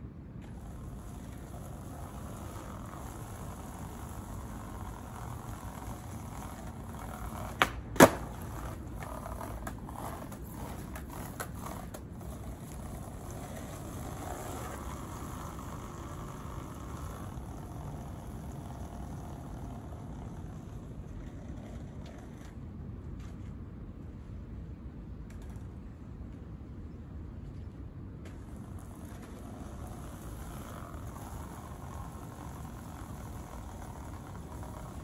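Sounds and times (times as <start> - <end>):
low background noise: 0.0 - 35.0
skateboard clacks: 0.4 - 22.6, 28.3 - 35.0
skateboard clicks: 0.4 - 22.6, 25.2 - 25.9, 28.2 - 35.0.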